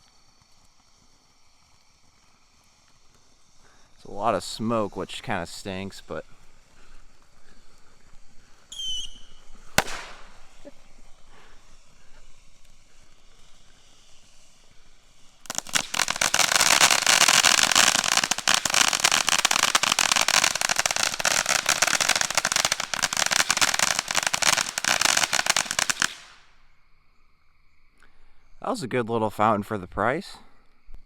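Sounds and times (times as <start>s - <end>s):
firework fountain crackling: 0.0s - 26.6s.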